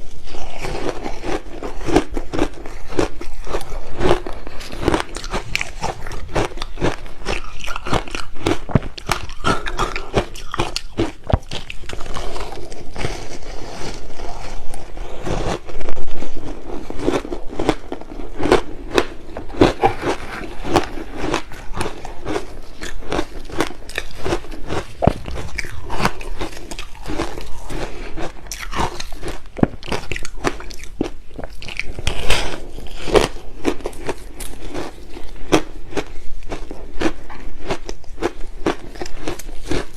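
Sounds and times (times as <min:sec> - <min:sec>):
crunching and chewing shaved ice: 0:00.0 - 0:39.9.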